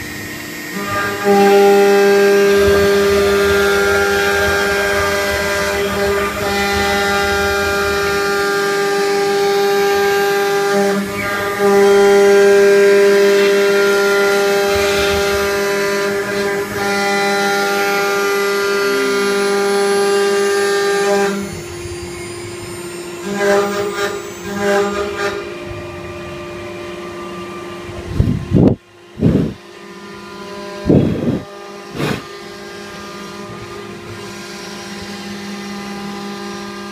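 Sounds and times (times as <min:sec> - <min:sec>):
router spindle high-pitched whine: 0:00.0 - 0:36.9.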